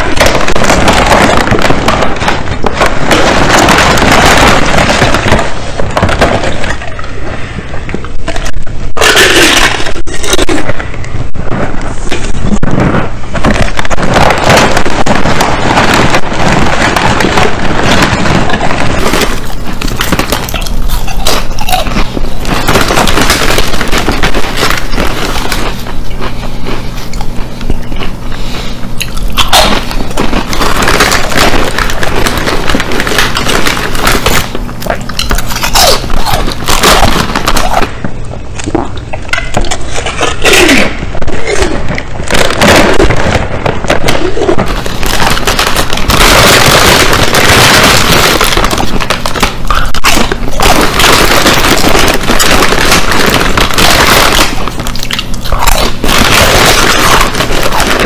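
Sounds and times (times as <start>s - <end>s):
foil chip bag crinkling: 0.0s - 58.0s
potato chips crunching: 8.3s - 10.8s, 12.2s - 38.0s, 38.6s - 58.0s.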